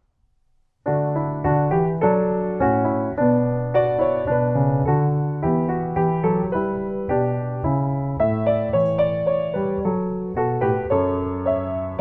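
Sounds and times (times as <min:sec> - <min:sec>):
piano playing chords: 0:00.8 - 0:12.0.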